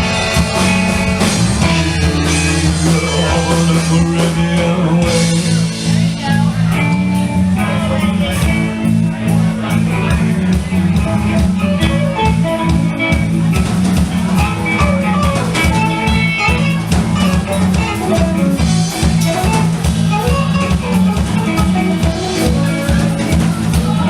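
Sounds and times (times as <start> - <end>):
band playing instrumental: 0.0 - 24.0
drum kit beat: 0.0 - 24.0
electric guitar: 0.0 - 24.0.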